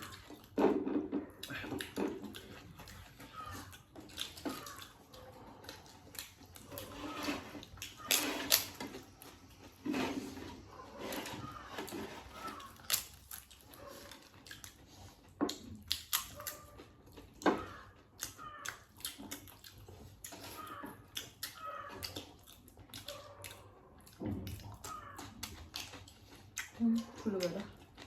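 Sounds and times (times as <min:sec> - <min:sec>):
people chewing food: 0:00.0 - 0:28.0.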